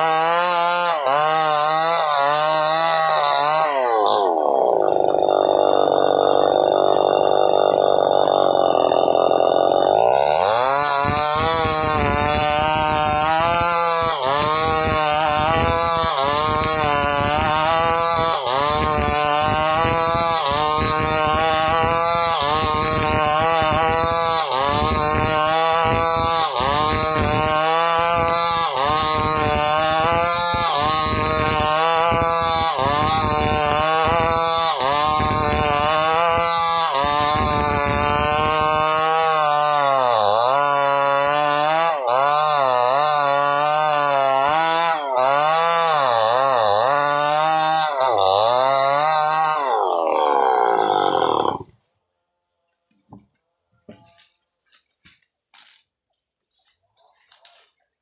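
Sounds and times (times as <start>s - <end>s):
chainsaw cutting a log: 0.0s - 51.9s, 53.1s - 54.8s.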